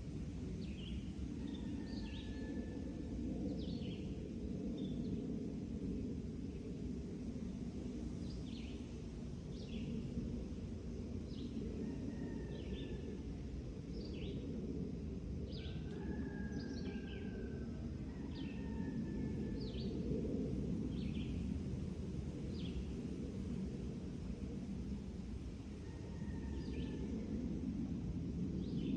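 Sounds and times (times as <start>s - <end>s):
low background rumble: 0.0s - 28.9s.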